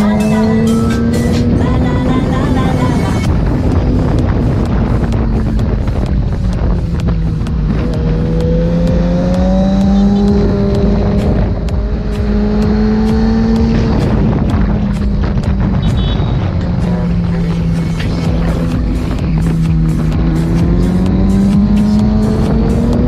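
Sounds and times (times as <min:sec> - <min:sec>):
motorcycle engine running: 0:00.0 - 0:23.0
wind rushing on microphone: 0:00.0 - 0:23.0.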